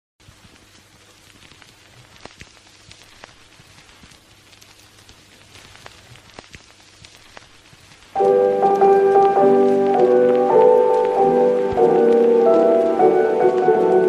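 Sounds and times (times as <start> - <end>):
record crackle with pops: 0.2 - 14.0.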